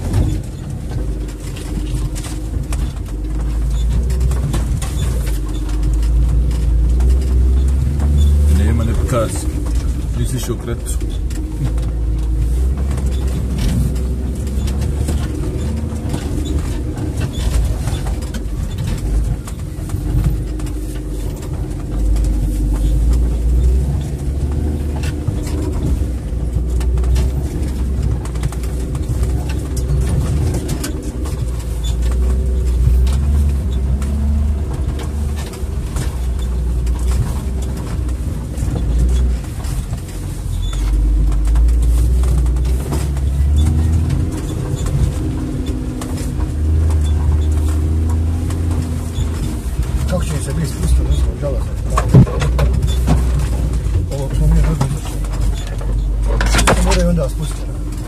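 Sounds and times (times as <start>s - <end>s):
body and suspension rattles: 0.0s - 58.0s
car engine rumbling under load: 0.0s - 58.0s.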